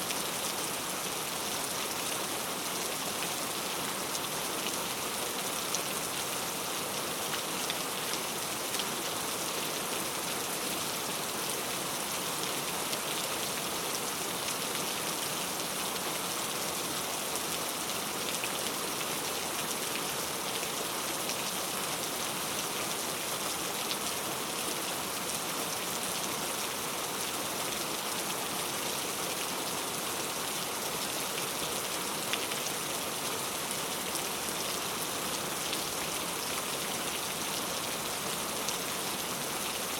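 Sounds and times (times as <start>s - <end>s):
rain drops ticking on surfaces: 0.0s - 39.9s
steady rain: 0.0s - 39.9s.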